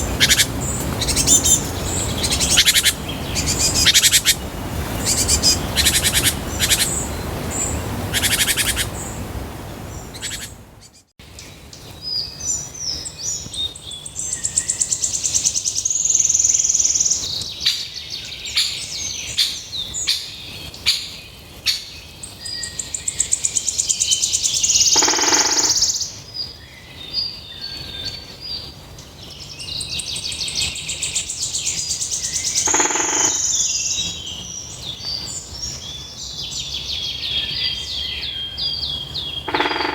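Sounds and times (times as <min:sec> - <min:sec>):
songbirds twittering and trilling: 0:00.0 - 0:39.9.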